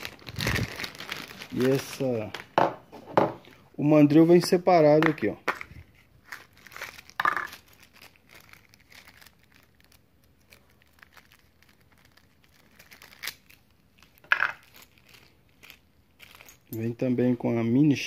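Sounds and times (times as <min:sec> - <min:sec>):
plastic wrapping crinkling: 0:00.0 - 0:02.6, 0:03.5 - 0:17.0.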